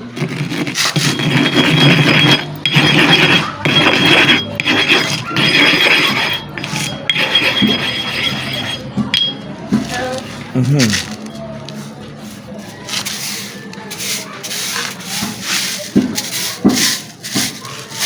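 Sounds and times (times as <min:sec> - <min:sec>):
sharpening stone scraping: 0:00.1 - 0:10.1, 0:10.9 - 0:18.0.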